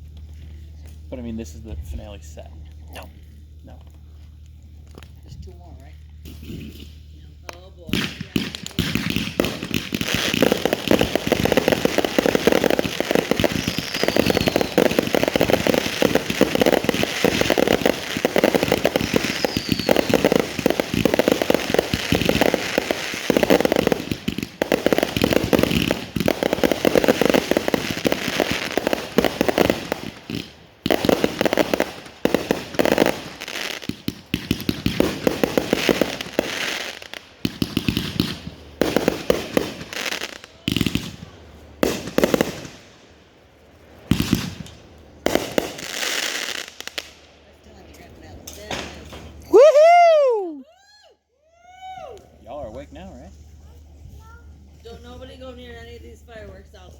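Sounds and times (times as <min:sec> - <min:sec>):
fireworks bangs and crackle: 0:00.0 - 0:50.5.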